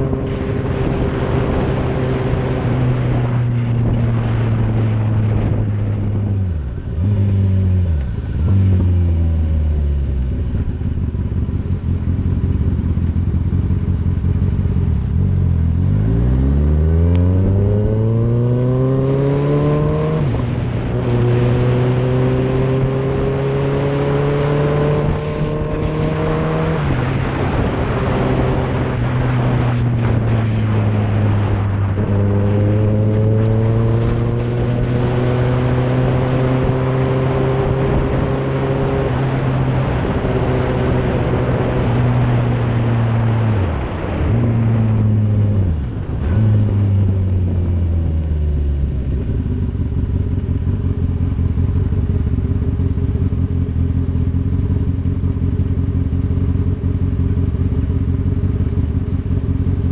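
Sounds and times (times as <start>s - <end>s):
motorcycle engine revving: 0.0s - 59.9s
wind and wet road noise: 0.0s - 59.9s.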